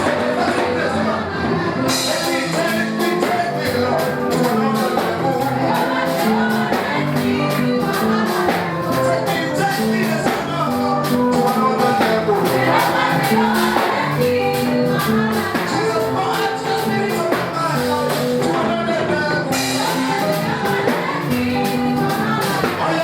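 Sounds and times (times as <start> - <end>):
drums and percussion: 0.0 - 23.0
people singing: 0.0 - 23.0.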